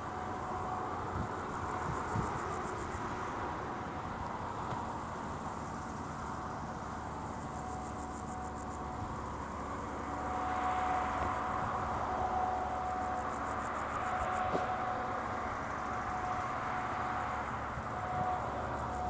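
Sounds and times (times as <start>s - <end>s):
road vehicle noise: 0.0s - 19.0s.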